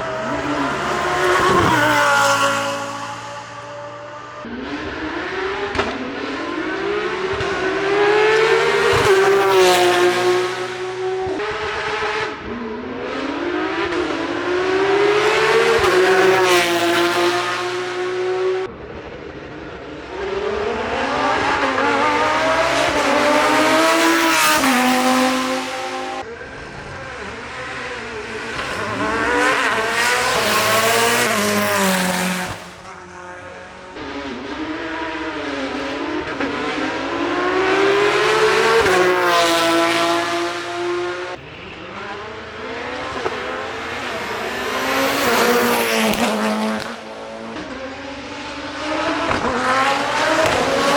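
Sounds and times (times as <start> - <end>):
race car engines accelerating: 0.0 - 50.9.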